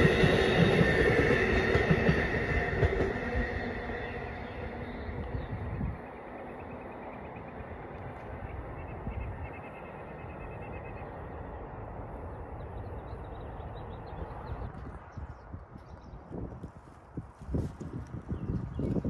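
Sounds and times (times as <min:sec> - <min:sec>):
passenger train rumbling away: 0:00.0 - 0:19.0.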